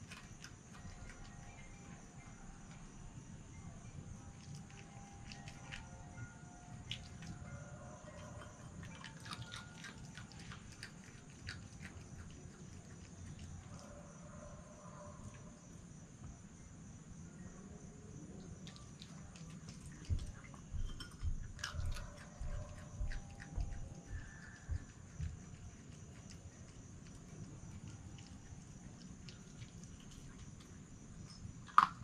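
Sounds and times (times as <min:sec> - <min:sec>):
fox chewing food: 0:00.0 - 0:02.8, 0:04.2 - 0:14.2, 0:18.4 - 0:32.0.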